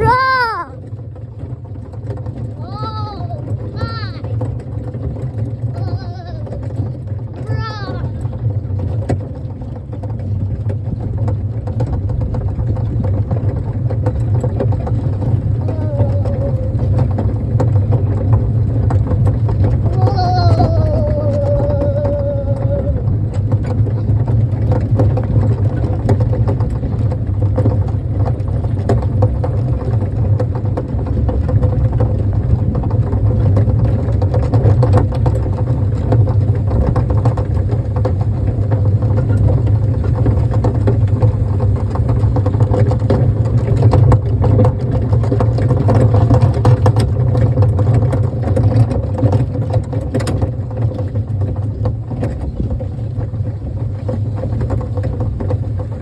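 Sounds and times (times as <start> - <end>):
kiddie train rumbling: 0.0 - 56.0
short rattles and clicks: 0.0 - 56.0.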